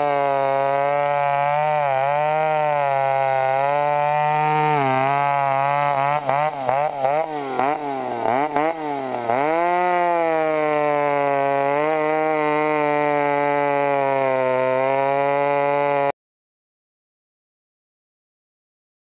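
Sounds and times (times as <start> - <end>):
chainsaw running at high revs: 0.0 - 16.2.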